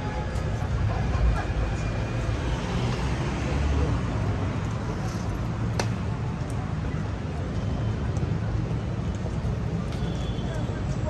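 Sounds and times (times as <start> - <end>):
rumble of passing cars: 0.0 - 11.0.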